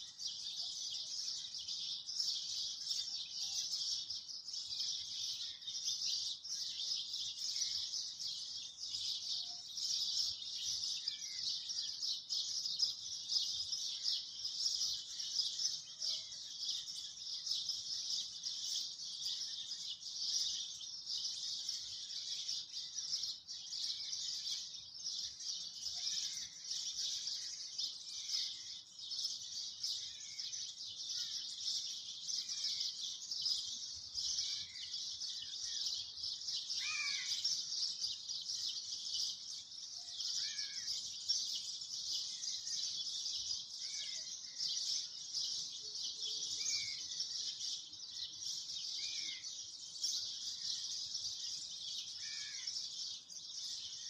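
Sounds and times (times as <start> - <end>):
birds chirping: 0.1 - 54.0.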